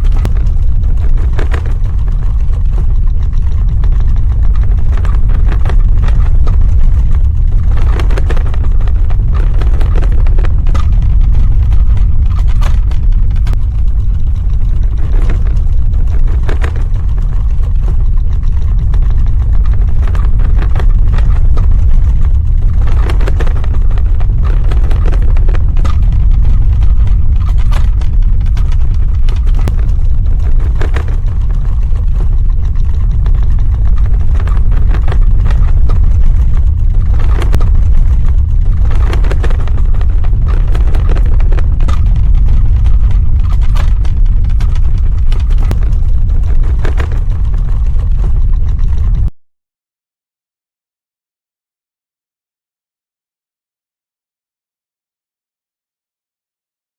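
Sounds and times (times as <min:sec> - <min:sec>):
crackles and rattles: 0:00.0 - 0:49.3
deep earthquake rumble: 0:00.0 - 0:49.3.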